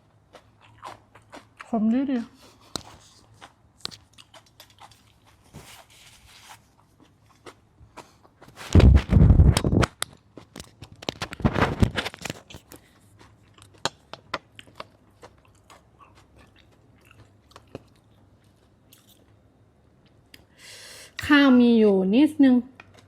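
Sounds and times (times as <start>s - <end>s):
chewing and crunching: 0.0s - 19.4s.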